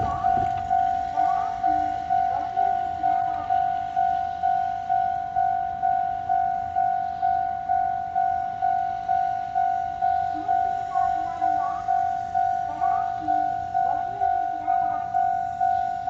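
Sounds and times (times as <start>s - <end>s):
railroad crossing alarm ringing: 0.0s - 16.0s.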